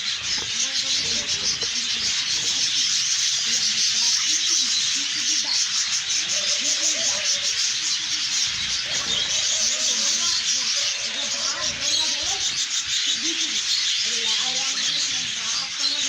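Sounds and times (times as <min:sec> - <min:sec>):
pigeons cooing: 0:00.0 - 0:16.0
small birds chattering: 0:00.0 - 0:16.0.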